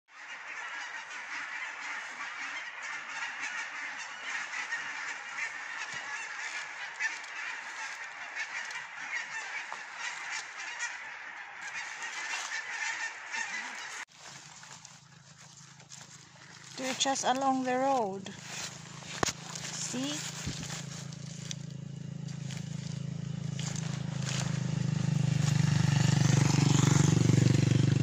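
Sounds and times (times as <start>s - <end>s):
birds honking: 0.1s - 27.9s.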